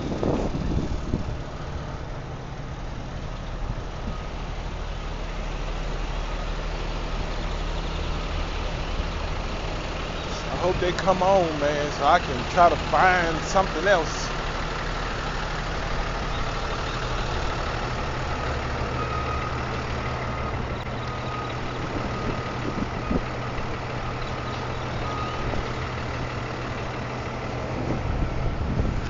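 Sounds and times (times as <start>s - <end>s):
truck engine humming: 0.0s - 29.0s.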